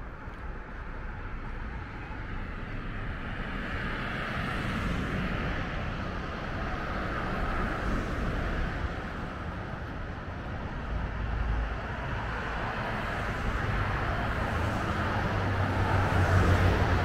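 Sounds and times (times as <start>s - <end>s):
passing vehicle engine and tyres: 0.0s - 17.0s
steady low traffic rumble: 0.0s - 17.0s.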